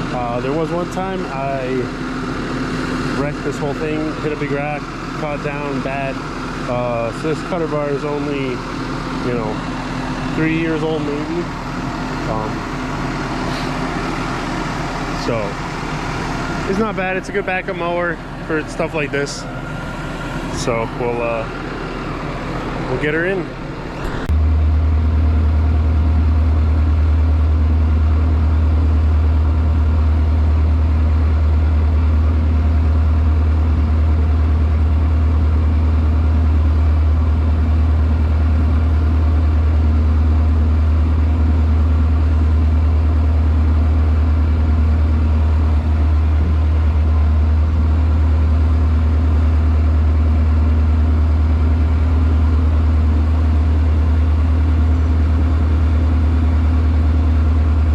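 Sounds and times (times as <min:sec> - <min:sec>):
heavy machine engine idling: 0:00.0 - 0:57.9.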